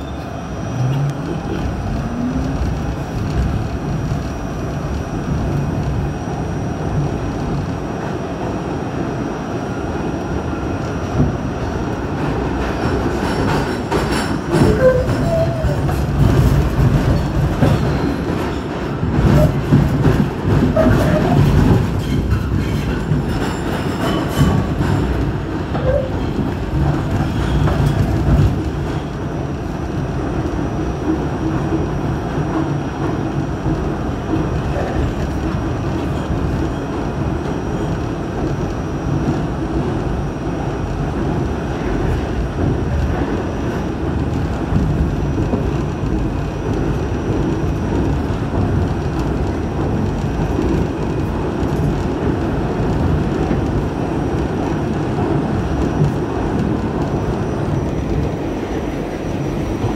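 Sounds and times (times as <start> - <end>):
subway train wheels rumbling on rails: 0.0 - 59.9.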